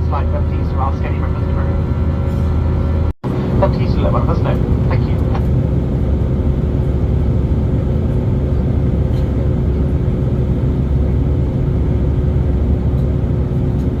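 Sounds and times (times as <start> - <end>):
low rumble of aircraft engines: 0.0 - 14.0
steady hum: 0.0 - 14.0.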